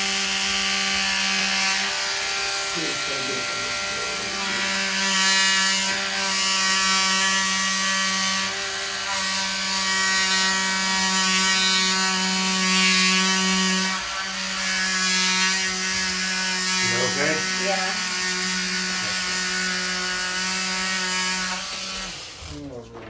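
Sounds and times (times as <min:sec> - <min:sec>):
vibration device buzzing: 0:00.0 - 0:22.8.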